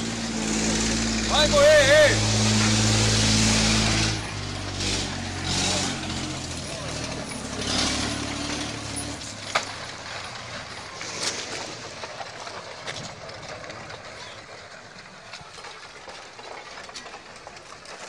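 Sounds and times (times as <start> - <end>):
landslide rushing rumble: 0.0 - 18.0.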